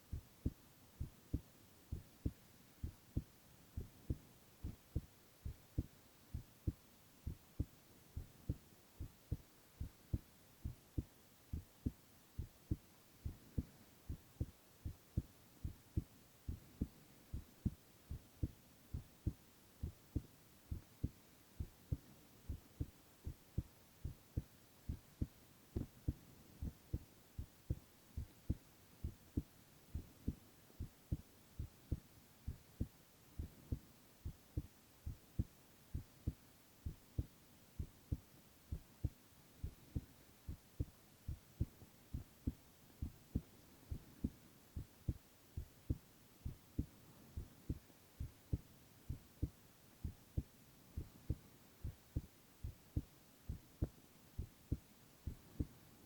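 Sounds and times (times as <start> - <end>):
heartbeat thumps: 0.1 - 55.8.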